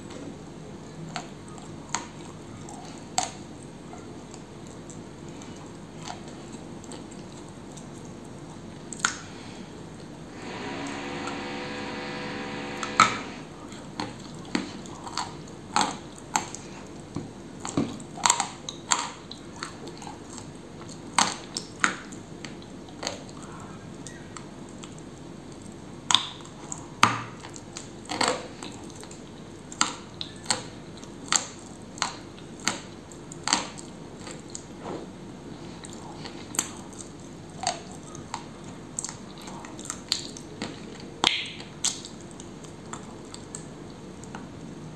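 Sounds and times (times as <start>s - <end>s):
quiet chewing: 0.0s - 10.2s, 13.4s - 44.7s.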